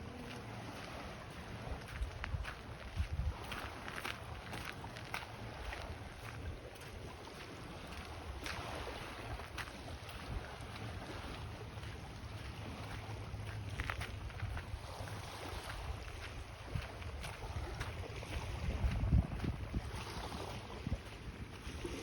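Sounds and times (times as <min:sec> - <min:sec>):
sea washing along shore: 0:00.0 - 0:22.0
wind buffeting microphone: 0:00.0 - 0:22.0.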